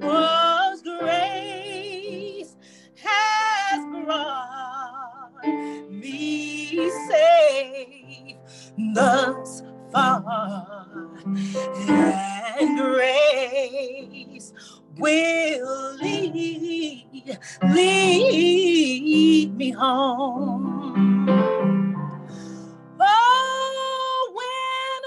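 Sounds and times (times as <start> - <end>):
woman singing with vibrato: 0.0 - 21.4, 23.0 - 25.0
piano: 0.0 - 25.0.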